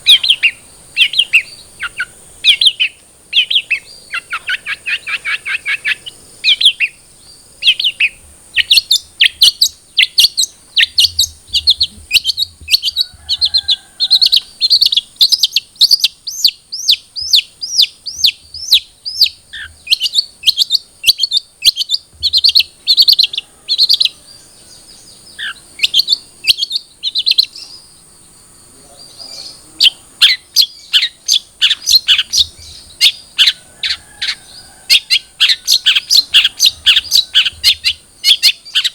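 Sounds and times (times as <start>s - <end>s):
shrike singing sharp chirps: 0.0s - 38.9s.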